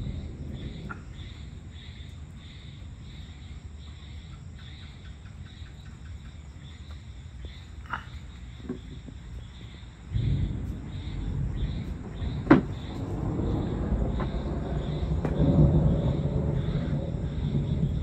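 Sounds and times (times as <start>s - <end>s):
insects chirping: 0.0s - 18.0s
low background rumble: 0.0s - 18.0s
sharp insect call: 0.0s - 18.0s.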